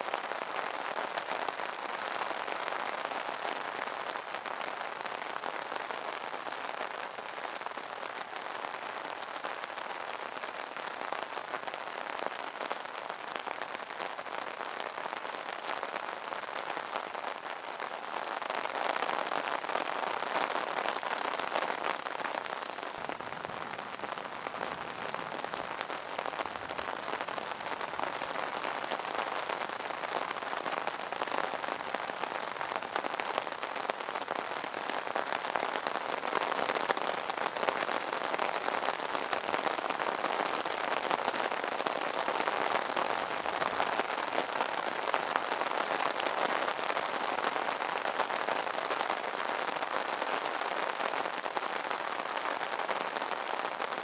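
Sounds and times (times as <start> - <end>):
rain on an umbrella: 0.0 - 54.0.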